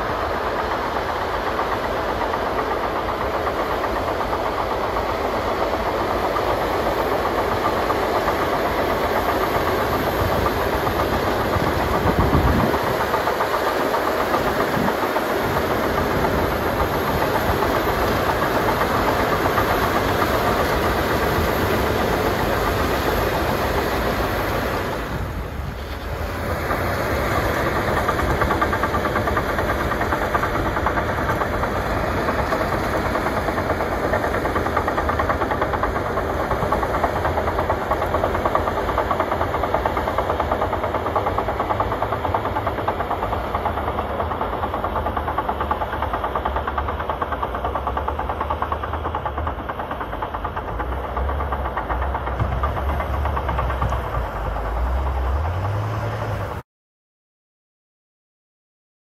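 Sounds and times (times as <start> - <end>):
bulldozer diesel engine: 0.0 - 56.6
tracks clattering: 0.0 - 56.6.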